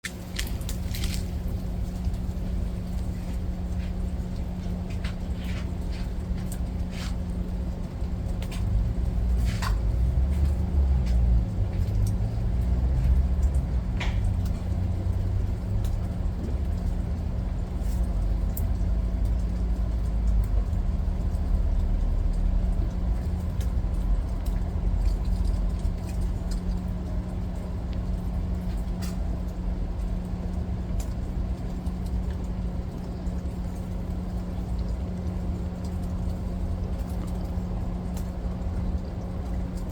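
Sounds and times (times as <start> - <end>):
constant low hum: 0.0 - 39.9
rain falling: 0.0 - 39.9.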